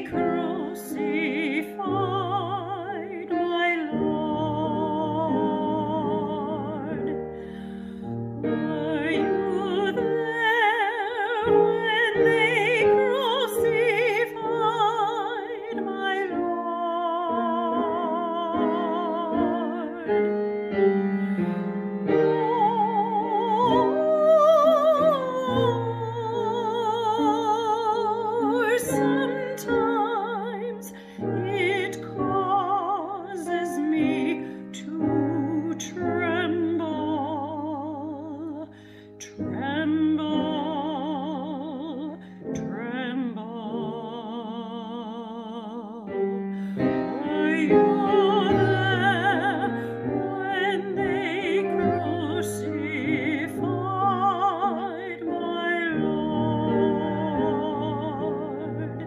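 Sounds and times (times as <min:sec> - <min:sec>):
piano accompaniment: 0:00.0 - 0:59.0
woman singing operatic hymn: 0:00.0 - 0:59.0.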